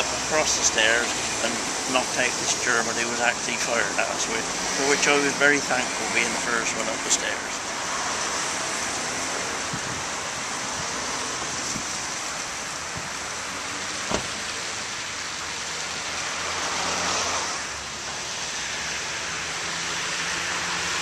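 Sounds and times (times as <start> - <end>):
fountain splashing: 0.0 - 21.0
road traffic: 0.0 - 21.0.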